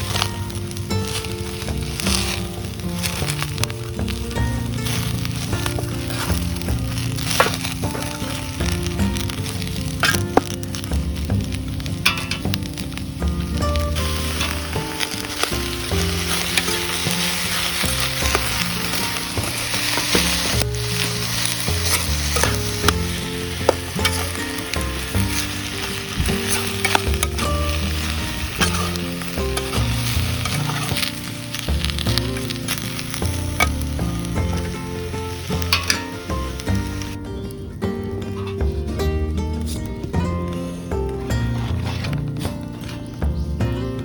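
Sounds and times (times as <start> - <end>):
utensil clicking against pan: 0.0 - 37.1
food sizzling in a pan: 0.0 - 37.2.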